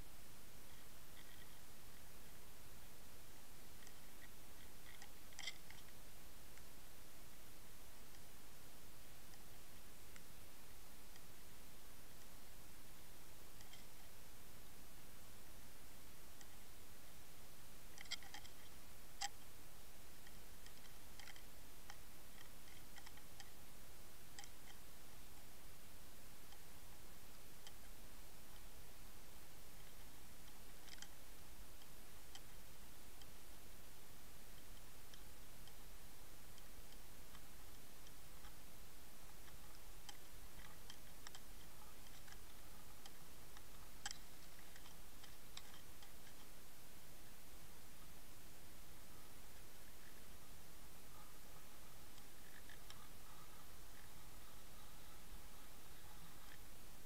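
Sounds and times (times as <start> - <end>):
faint underwater clicks and ticks: 0.0 - 57.0
steady hiss: 0.0 - 57.0.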